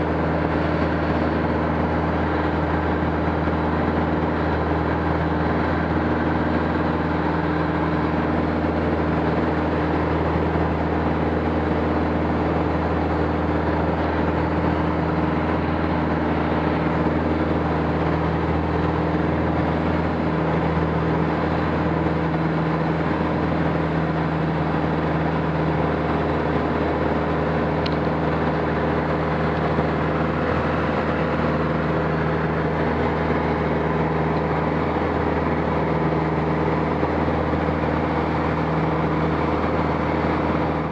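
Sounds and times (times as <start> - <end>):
aircraft engine drone: 0.0 - 40.9
noisy air rush: 0.0 - 40.9.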